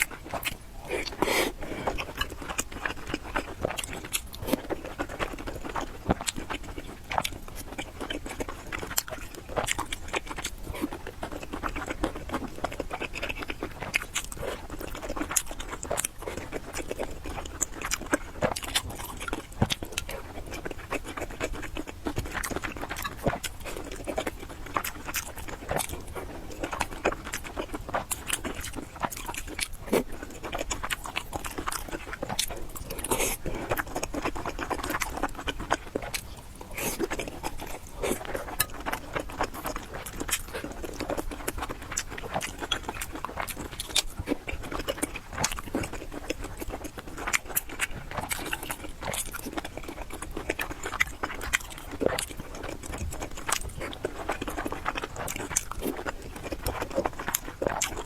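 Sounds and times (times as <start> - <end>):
person chewing noodles: 0.0 - 58.0.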